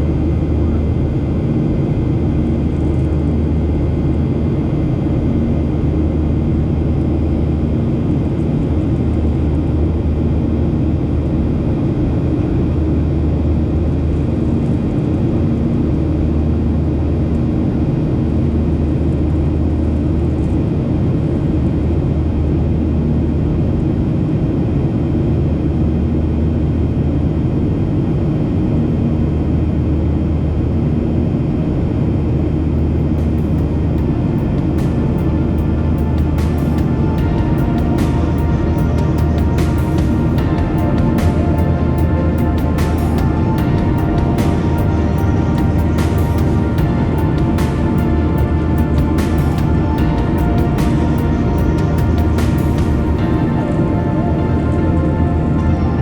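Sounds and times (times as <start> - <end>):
airliner engines droning: 0.0 - 56.0
low hum: 0.0 - 56.0.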